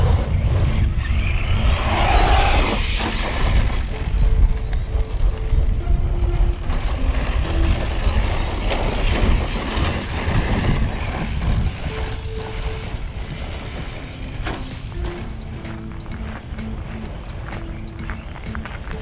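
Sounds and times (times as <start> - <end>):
electric motor whining: 0.0 - 19.0
tyres rushing on pavement: 0.0 - 19.0.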